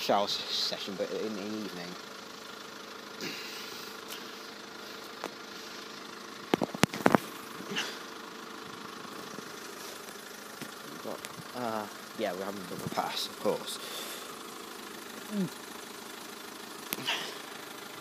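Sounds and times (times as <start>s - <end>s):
car engines idling: 0.0s - 18.0s.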